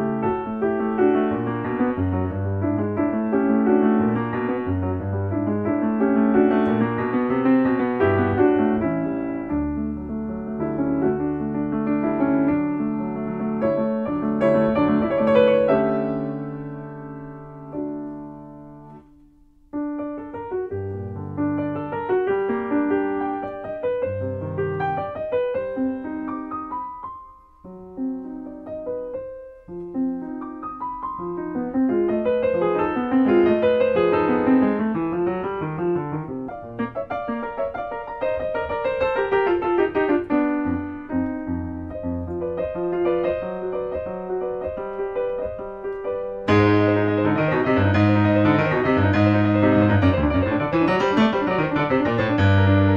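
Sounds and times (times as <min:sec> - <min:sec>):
piano music: 0:00.0 - 0:52.9.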